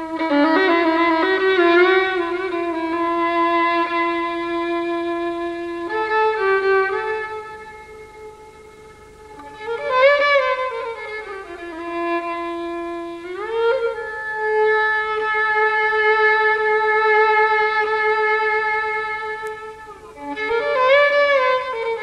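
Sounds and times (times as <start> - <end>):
solo bowed violin: 0.0 - 22.0.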